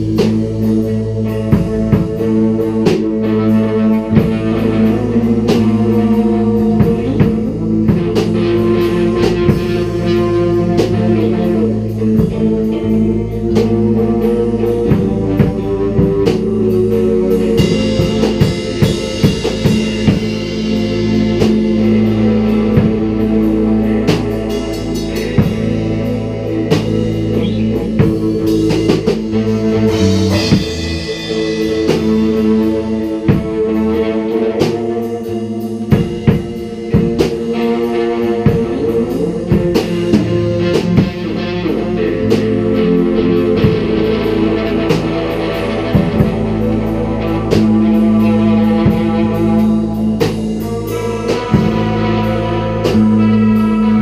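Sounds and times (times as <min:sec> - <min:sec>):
bass guitar: 0:00.0 - 0:54.0
drum kit drumming: 0:00.0 - 0:54.0
electric guitar: 0:00.0 - 0:54.0.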